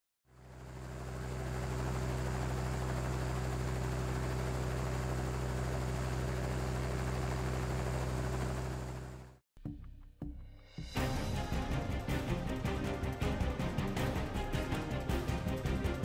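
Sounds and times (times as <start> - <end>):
deep engine drone: 0.3 - 9.4, 10.9 - 16.0.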